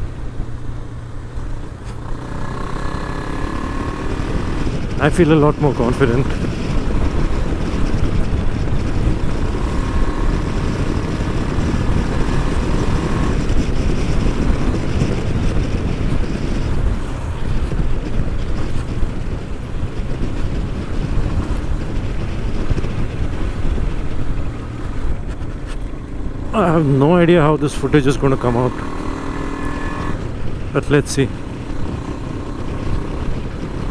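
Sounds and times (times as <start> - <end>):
motorcycle engine: 0.0 - 33.9
wind rushing over microphone: 0.0 - 33.9.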